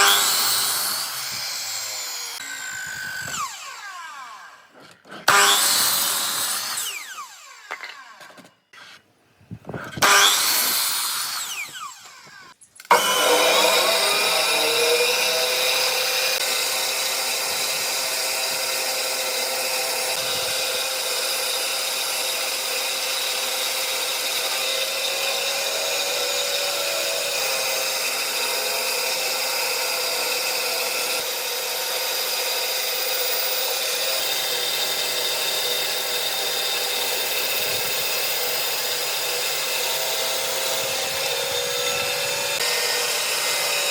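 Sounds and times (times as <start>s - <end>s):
electric power tool running: 0.0s - 8.5s, 10.0s - 43.9s.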